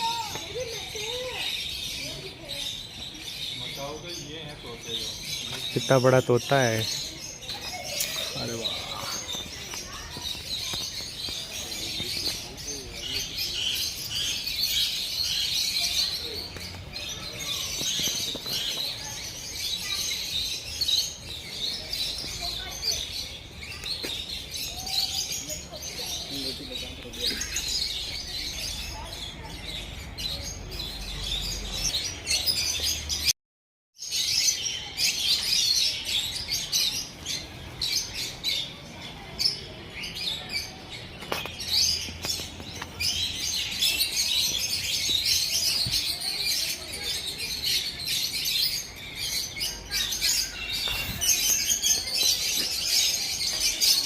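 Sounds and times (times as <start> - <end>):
many birds chirping: 0.0 - 33.3, 34.0 - 54.0.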